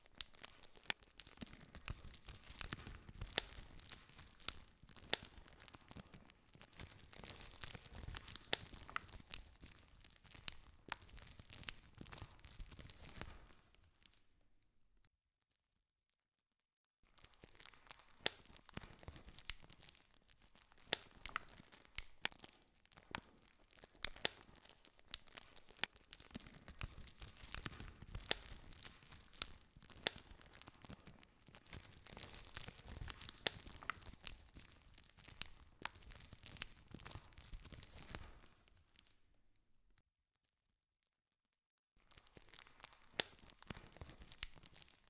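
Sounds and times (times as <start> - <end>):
wood campfire crackling: 0.0 - 14.1, 17.2 - 39.1, 42.1 - 45.0.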